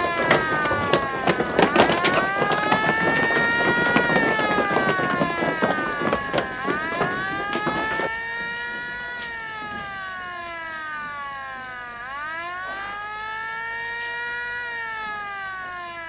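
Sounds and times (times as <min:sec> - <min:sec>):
wailing alarm siren: 0:00.0 - 0:16.0.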